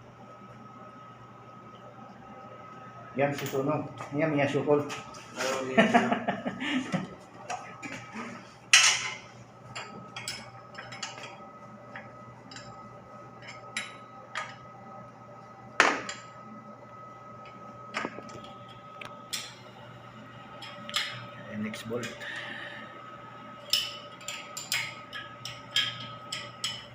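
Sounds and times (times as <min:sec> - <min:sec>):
machinery hum: 0:00.0 - 0:26.9.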